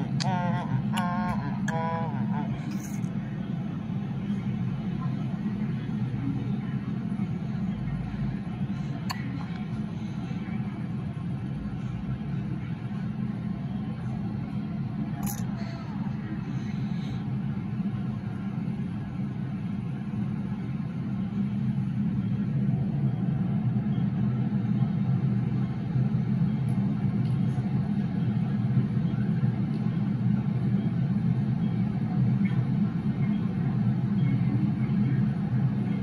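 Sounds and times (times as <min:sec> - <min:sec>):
train low rumble: 0:00.0 - 0:36.0.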